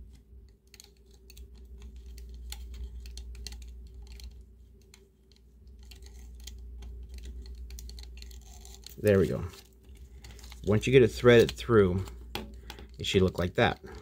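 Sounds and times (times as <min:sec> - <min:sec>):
faint steady hum: 0:00.0 - 0:14.0
tweezers clicking and scraping: 0:00.5 - 0:13.0.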